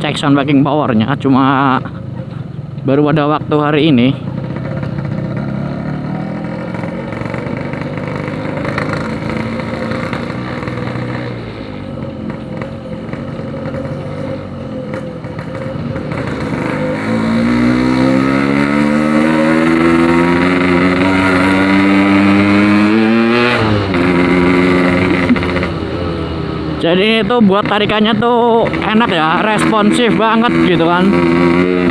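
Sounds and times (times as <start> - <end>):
two-stroke motorcycle engine revving: 2.9 - 31.9.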